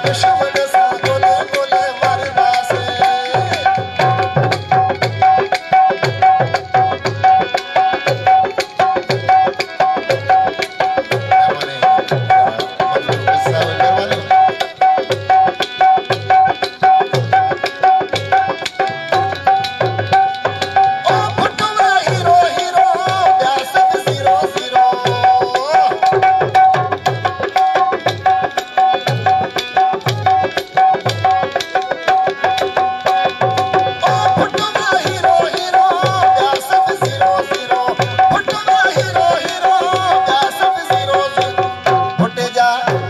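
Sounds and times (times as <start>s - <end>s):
hand drum fast rhythm: 0.0s - 43.0s
harmonium: 0.0s - 43.0s.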